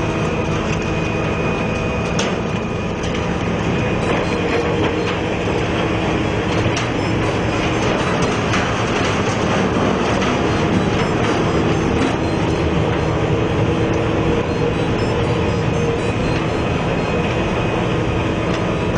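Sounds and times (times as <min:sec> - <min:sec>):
wood chipper running: 0:00.0 - 0:18.9.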